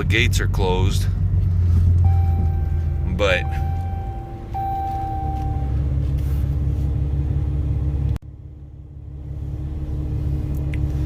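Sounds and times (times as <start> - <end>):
vehicle rumble from inside cab: 0.0 - 11.0.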